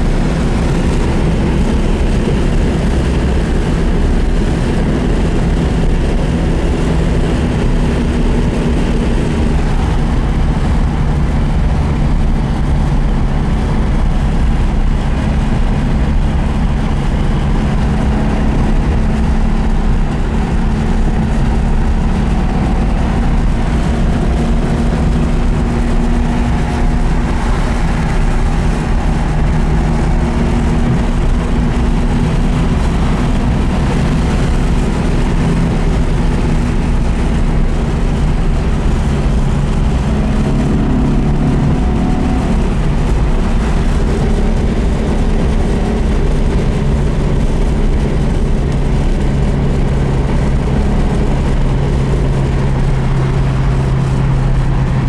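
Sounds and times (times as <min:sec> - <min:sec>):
car engine cruising: 0:00.0 - 0:55.0
road and wind noise: 0:00.0 - 0:55.0.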